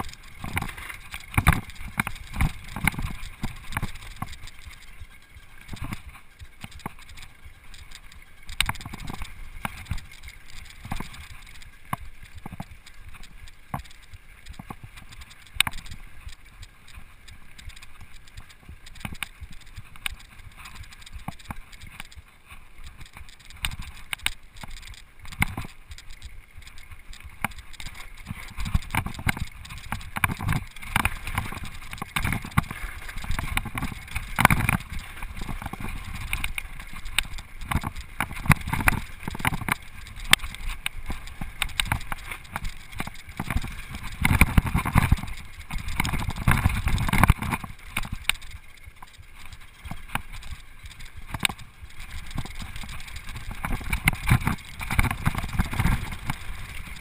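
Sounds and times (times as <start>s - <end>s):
bike rattling over bumps: 0.0s - 57.0s.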